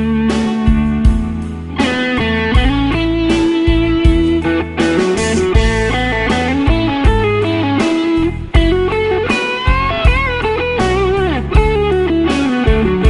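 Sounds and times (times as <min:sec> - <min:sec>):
bass and steady beat: 0:00.0 - 0:13.0
lead guitar with bent notes: 0:00.0 - 0:13.0.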